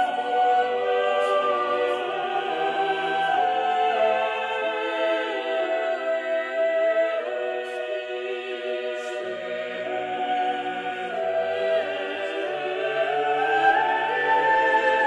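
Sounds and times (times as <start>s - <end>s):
choral singing: 0.0s - 15.0s.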